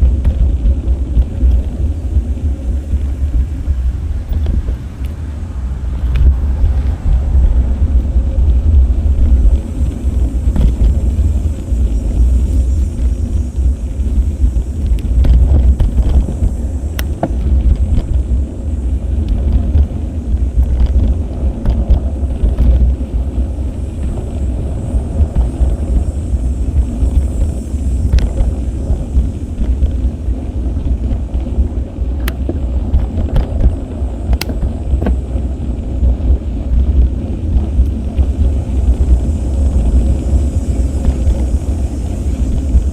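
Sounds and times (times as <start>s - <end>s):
bicycle road noise: 0.0s - 42.9s
bike clicking over bumps: 0.0s - 42.9s
wind rumble: 0.0s - 42.9s.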